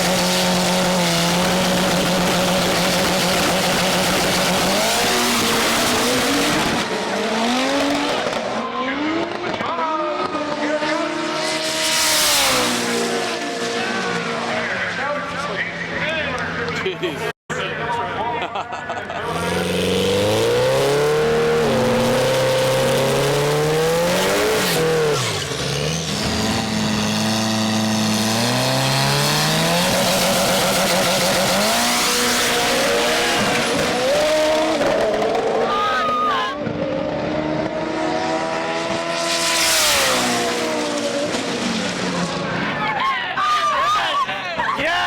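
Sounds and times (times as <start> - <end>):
truck engine revving and shifting: 0.0 - 16.5, 19.1 - 42.7.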